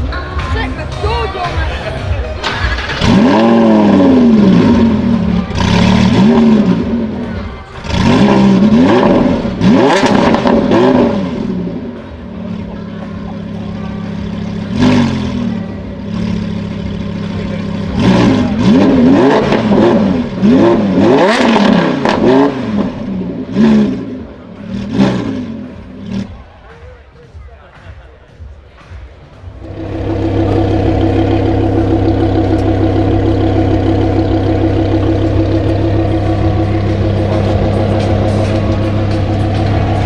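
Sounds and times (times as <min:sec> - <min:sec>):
exhaust crackles: 0:00.0 - 0:26.5, 0:29.5 - 0:40.0
car engine revving and idling: 0:00.0 - 0:26.8, 0:29.4 - 0:40.0.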